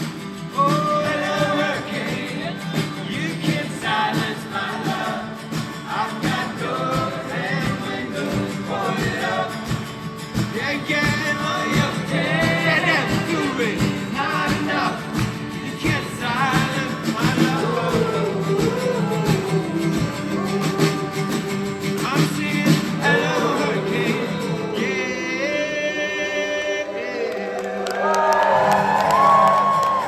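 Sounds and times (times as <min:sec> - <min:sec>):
rock guitar: 0:00.0 - 0:24.9
person singing: 0:00.0 - 0:28.4.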